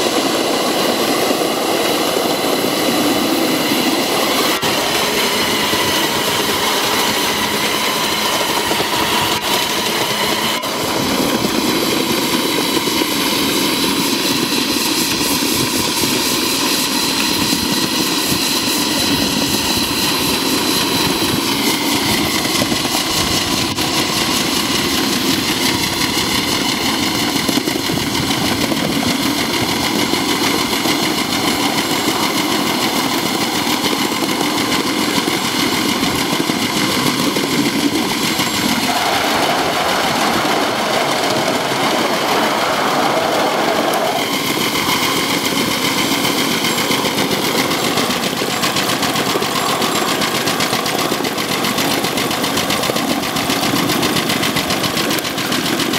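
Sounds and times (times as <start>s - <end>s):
miniature steam locomotive exhaust: 0.0s - 55.9s
wheel noise on rails: 0.0s - 55.9s.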